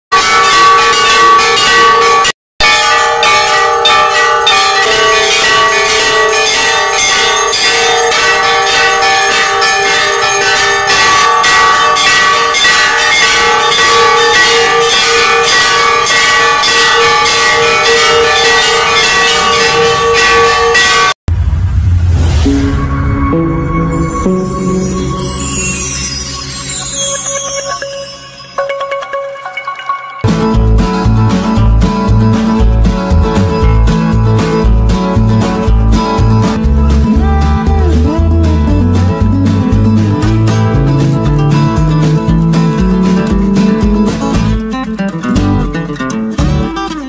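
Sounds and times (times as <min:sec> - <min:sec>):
metal bells rung rapidly: 0:00.2 - 0:21.2, 0:24.0 - 0:44.6.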